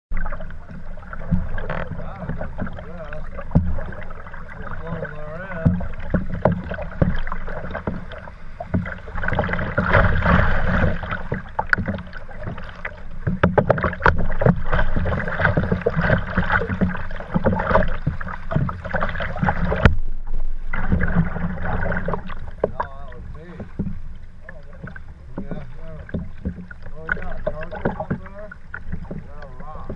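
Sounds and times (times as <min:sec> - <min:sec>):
water rushing against hull: 0:00.1 - 0:29.9
water splashes: 0:00.1 - 0:29.9.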